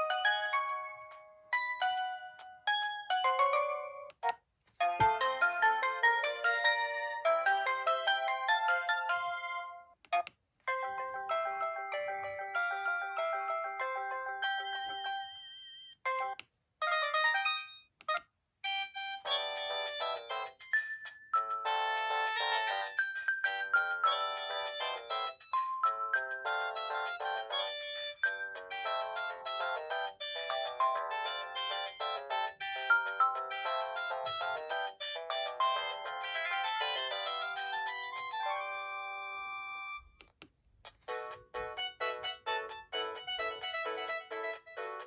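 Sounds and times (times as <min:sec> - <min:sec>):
polyphonic phone ringtone: 0:04.8 - 0:40.3, 0:41.0 - 0:45.0.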